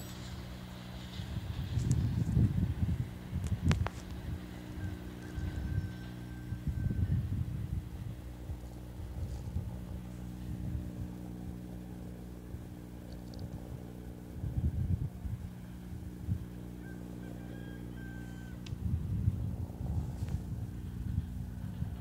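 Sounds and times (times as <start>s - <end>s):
wind buffeting microphone: 0.0s - 17.2s, 18.5s - 22.0s
distant freight train rumble: 0.0s - 22.0s.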